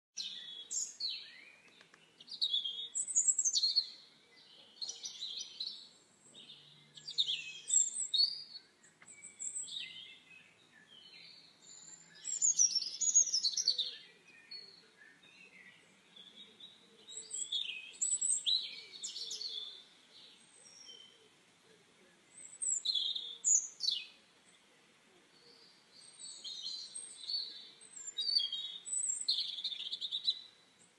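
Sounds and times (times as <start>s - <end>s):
birds chirping and singing: 0.2s - 21.7s, 22.3s - 30.9s.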